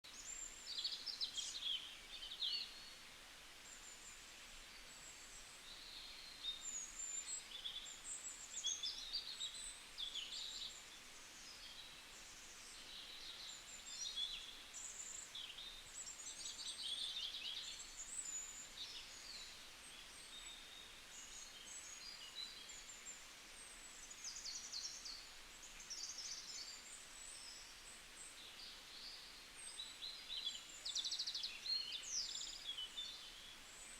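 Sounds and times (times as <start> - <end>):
faint steady hiss: 0.0 - 33.9
songbirds chirping and trilling: 0.0 - 33.9.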